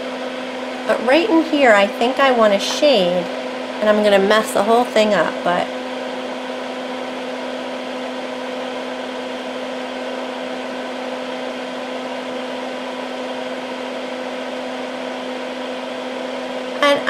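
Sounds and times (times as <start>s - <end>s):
fume extractor fan humming: 0.0s - 17.0s.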